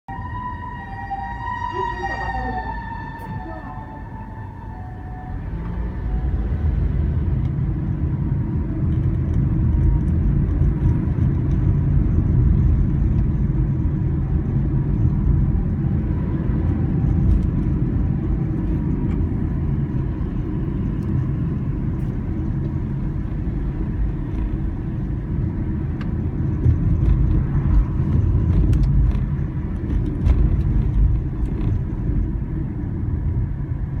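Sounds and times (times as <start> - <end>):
cars going by: 0.1 - 34.0.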